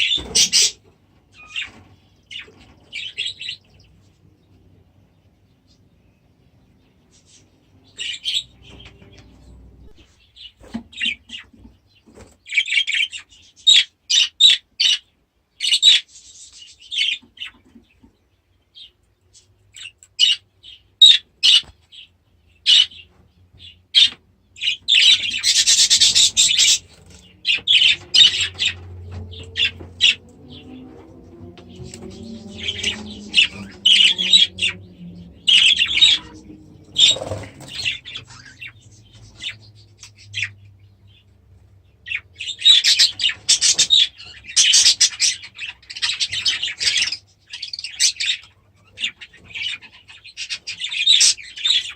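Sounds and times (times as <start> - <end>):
small birds chirping and calling: 0.0 - 51.9.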